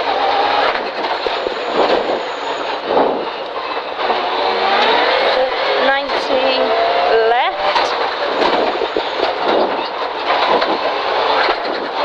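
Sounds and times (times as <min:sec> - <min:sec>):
rally car engine downshifting: 0:00.0 - 0:12.0
road noise: 0:00.0 - 0:12.0.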